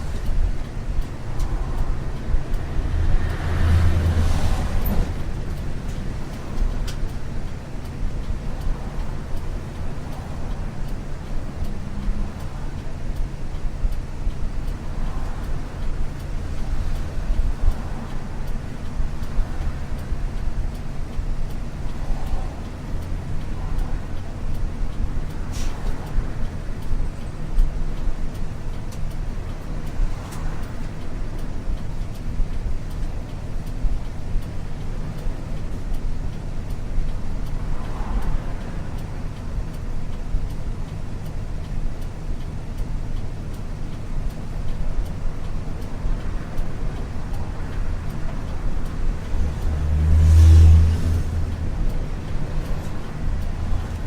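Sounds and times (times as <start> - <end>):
bus diesel engine droning: 0.0 - 54.0
faint regular ticking: 0.0 - 54.0
road noise in cabin: 0.0 - 54.0.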